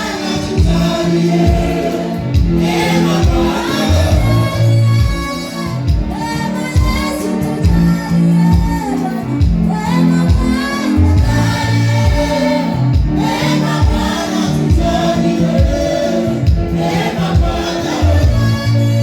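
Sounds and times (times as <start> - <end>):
drum beat: 0.0 - 6.2, 8.6 - 18.7
bass notes: 0.0 - 19.0
voices singing together: 0.0 - 19.0.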